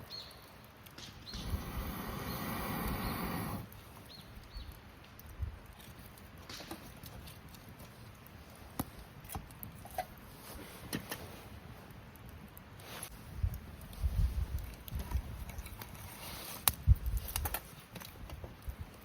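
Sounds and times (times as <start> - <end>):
campfire crackling and popping: 0.0 - 19.0
faint steady hiss: 0.0 - 19.0.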